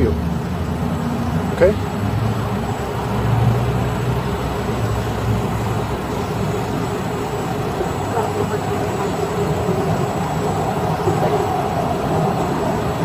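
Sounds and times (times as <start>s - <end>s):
vehicle idling rumble: 0.0s - 13.0s.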